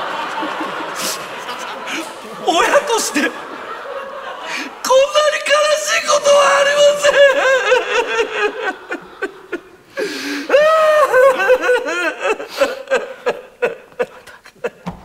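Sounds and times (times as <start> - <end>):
man sobbing and wailing: 1.0 - 3.6, 4.4 - 14.8.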